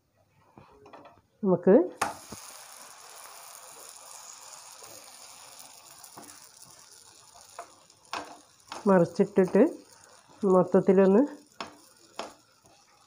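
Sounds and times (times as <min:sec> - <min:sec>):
bread sizzling in butter: 0:02.0 - 0:13.0.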